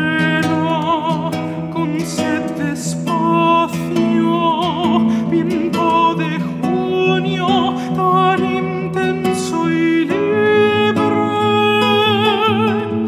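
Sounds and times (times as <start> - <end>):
countertenor singing with vibrato: 0.0 - 13.0
plucked classical guitar: 0.0 - 13.0.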